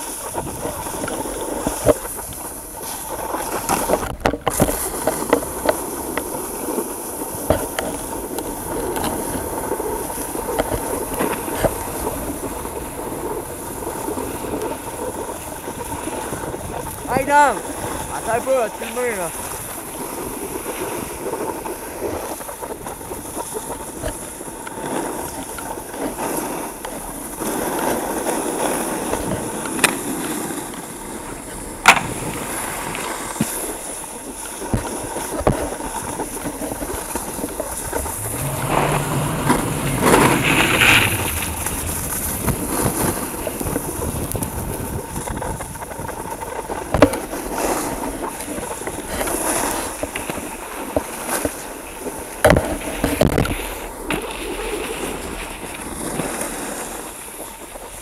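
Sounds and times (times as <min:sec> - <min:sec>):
snowboards scraping on snow: 0:00.0 - 0:58.0.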